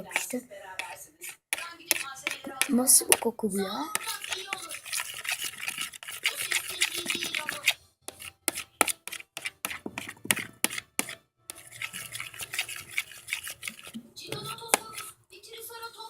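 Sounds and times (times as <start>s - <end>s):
spoon scraping a plate: 0.0s - 15.2s.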